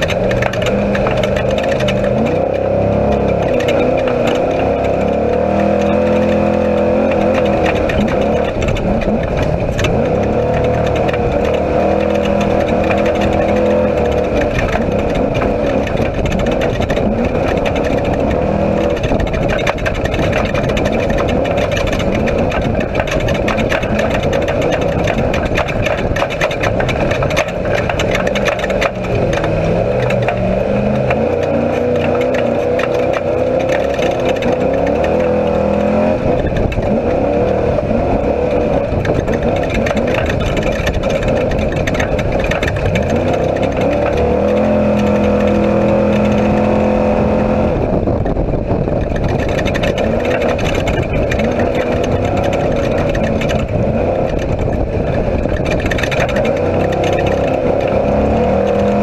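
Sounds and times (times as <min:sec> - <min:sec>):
race vehicle engine revving: 0:00.0 - 0:59.0
vehicle knocks and rattles: 0:00.0 - 0:59.0.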